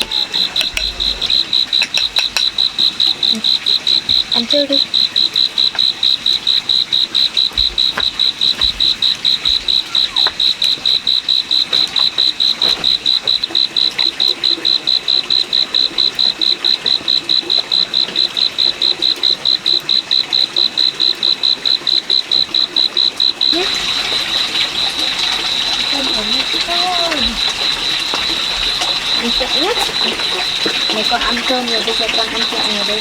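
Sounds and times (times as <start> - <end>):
insect pulsing chirp: 0.0 - 33.0.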